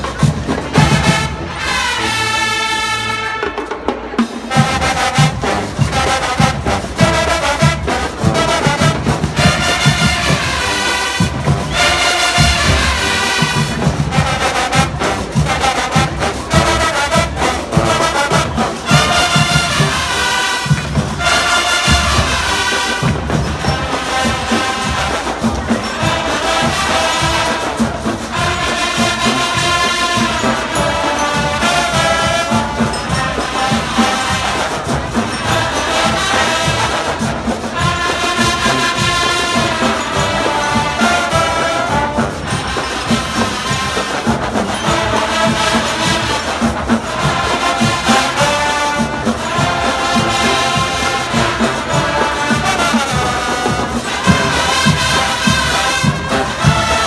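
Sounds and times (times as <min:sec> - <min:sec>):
steady drum beat: 0:00.0 - 0:02.4, 0:03.4 - 0:57.0
brass melody: 0:00.0 - 0:57.0.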